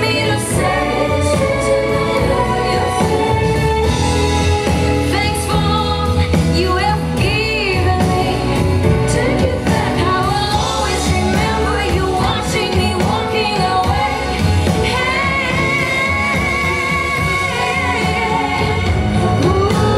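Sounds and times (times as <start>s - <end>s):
pop music with singing: 0.0s - 19.9s.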